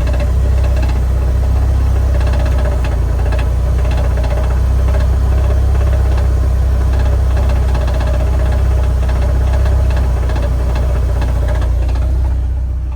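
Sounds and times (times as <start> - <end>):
car engine idling: 0.0 - 12.9
fast steady rattle: 0.0 - 12.9.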